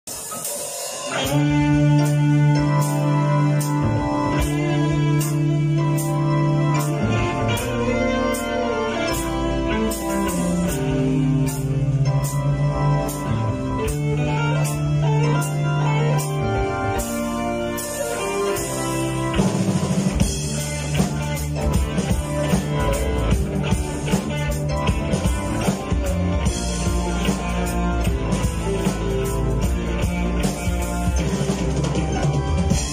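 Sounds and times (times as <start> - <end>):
drum kit: 0.0 - 32.9
electric guitars: 0.0 - 32.9
keyboard: 0.0 - 32.9.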